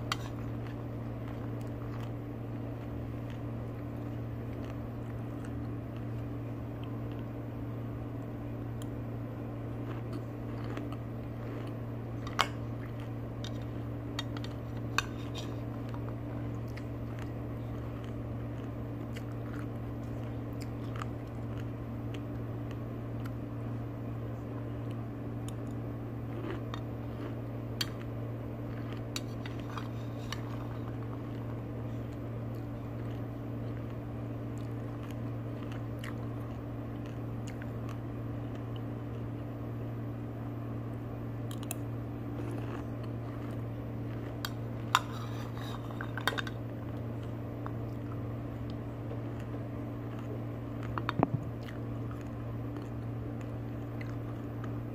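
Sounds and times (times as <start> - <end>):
crunchy chewing: 0.0 - 7.3, 8.2 - 23.4, 24.4 - 39.3, 41.4 - 54.9
steady low hum: 0.0 - 54.9.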